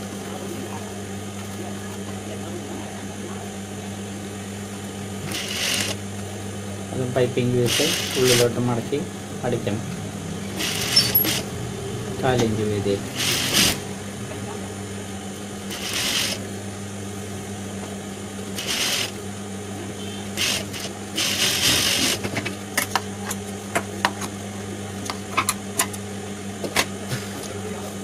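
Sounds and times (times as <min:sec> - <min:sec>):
low electric hum: 0:00.0 - 0:28.0.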